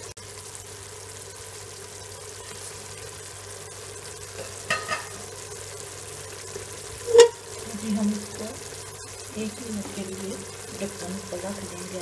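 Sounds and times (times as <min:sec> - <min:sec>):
curry sizzling in pot: 0:00.0 - 0:12.0.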